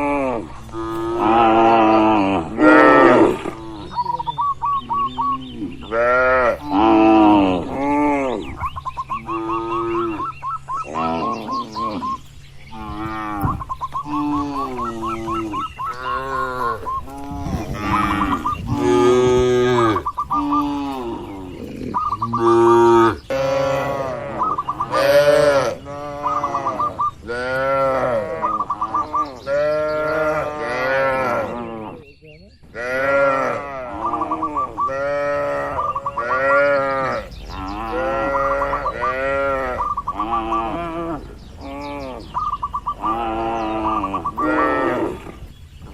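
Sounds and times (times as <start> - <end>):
cows mooing: 0.0 - 32.1, 32.8 - 45.5.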